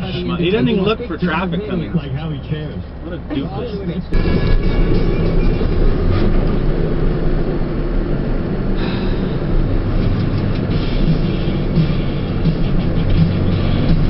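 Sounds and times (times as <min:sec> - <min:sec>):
road noise: 0:00.0 - 0:14.0
truck engine running: 0:00.0 - 0:14.0.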